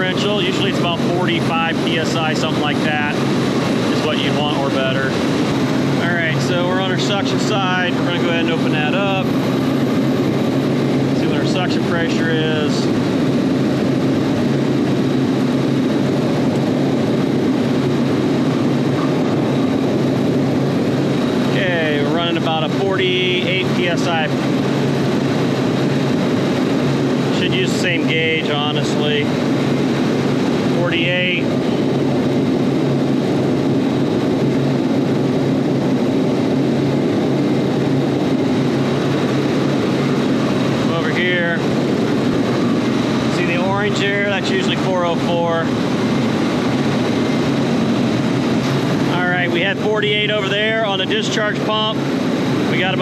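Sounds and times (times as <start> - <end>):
compressors and fans droning: 0.0 - 53.0.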